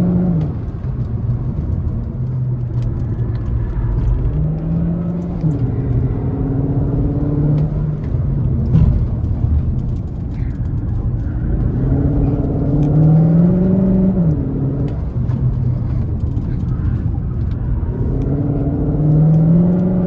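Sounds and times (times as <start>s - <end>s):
car engine pulling hard: 0.0s - 20.0s
tyre and road rumble: 0.0s - 20.0s.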